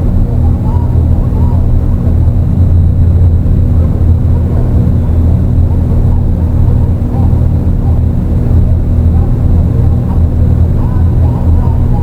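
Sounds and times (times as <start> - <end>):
dark electronic drone: 0.0 - 12.0.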